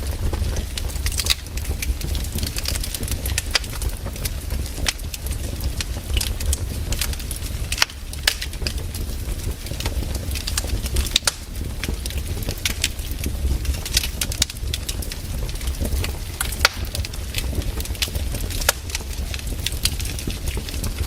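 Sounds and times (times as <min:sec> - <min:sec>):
firewood crackling: 0:00.0 - 0:21.0
low fire rumble: 0:00.0 - 0:21.0
sharp pops and snaps: 0:00.2 - 0:08.8, 0:09.6 - 0:21.0.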